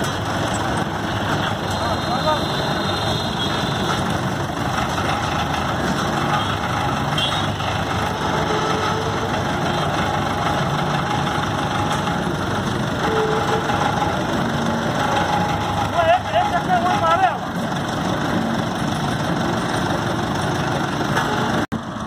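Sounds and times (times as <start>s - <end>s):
road roller engine idling: 0.0s - 22.0s.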